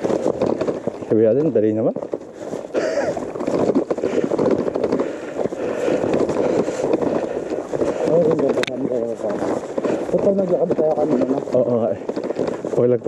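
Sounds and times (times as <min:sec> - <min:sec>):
bike rattling: 0:00.0 - 0:13.0
tyres crunching over stones: 0:00.0 - 0:13.0
wind buffeting microphone: 0:00.0 - 0:13.0.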